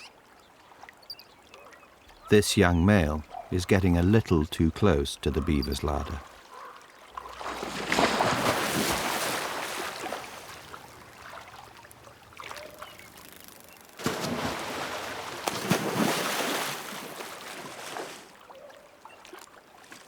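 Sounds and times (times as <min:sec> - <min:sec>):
water splashing and sloshing: 0:00.2 - 0:20.0.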